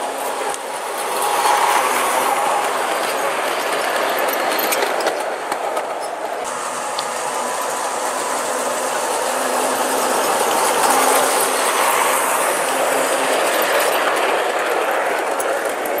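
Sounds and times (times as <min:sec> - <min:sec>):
model train motor whirring: 0:00.0 - 0:16.0
wheels clicking on metal track: 0:00.0 - 0:16.0.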